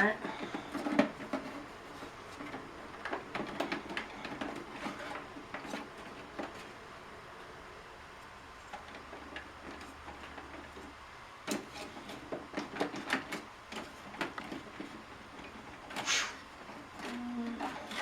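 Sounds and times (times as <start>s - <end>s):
plastic parts clicking and knocking: 0.0s - 6.7s, 8.7s - 18.0s
plastic scraping: 0.0s - 6.8s, 8.7s - 18.0s.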